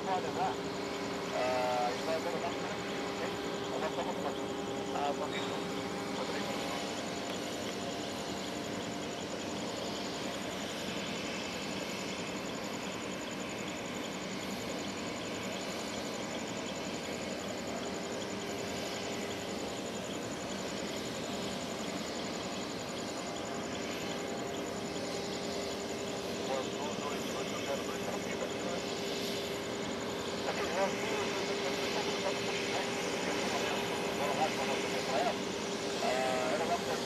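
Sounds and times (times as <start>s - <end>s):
high rapid insect trill: 0.0s - 37.0s.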